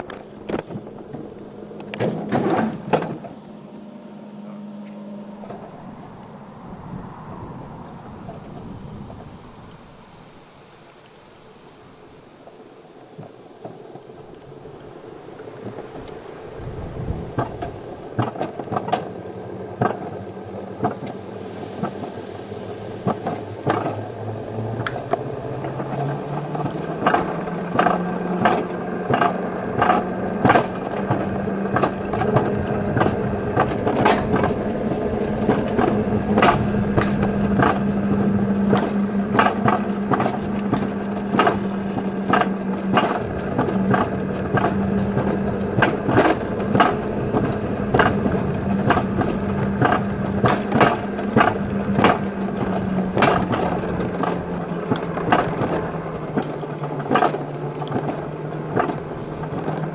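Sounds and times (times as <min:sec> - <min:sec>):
sharp clacks on rails: 0:00.0 - 0:03.4, 0:12.4 - 0:59.9
coaster sled rolling hum: 0:00.0 - 0:59.9.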